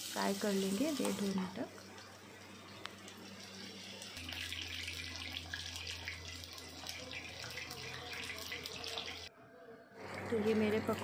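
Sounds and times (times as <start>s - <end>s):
food sizzling in hot oil: 0.0s - 9.3s.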